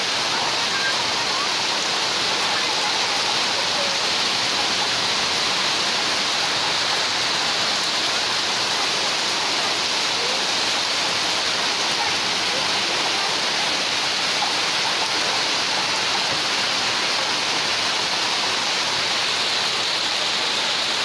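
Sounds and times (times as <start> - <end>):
rain on a tin roof: 0.0 - 21.0.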